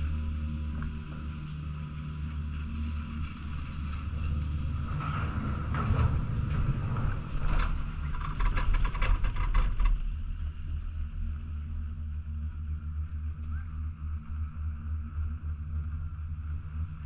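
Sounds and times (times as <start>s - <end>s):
chairlift mechanical rumble: 0.0s - 17.0s.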